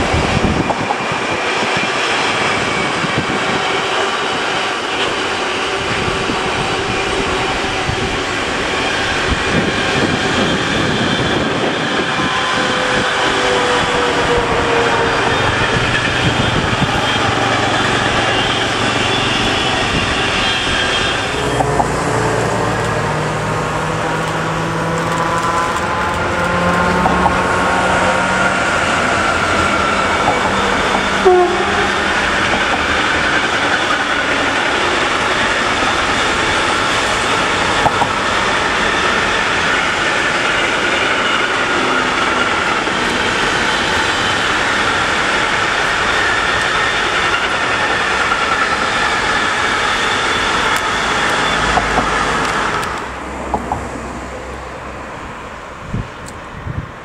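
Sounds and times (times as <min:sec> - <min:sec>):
train wheels on rails: 0:00.0 - 0:57.0
road traffic passing: 0:04.4 - 0:57.0.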